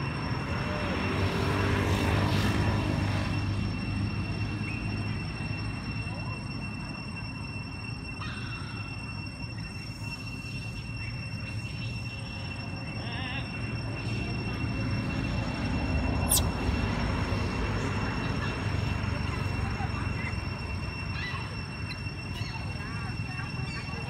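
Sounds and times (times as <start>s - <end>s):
constant high-pitched tones: 0.0s - 24.0s.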